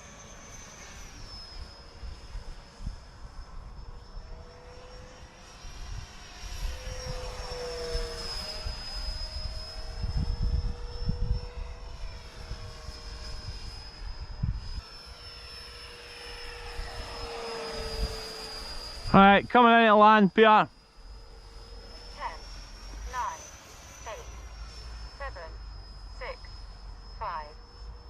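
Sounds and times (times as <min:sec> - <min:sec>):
electric ducted fan whining: 0:03.6 - 0:28.0.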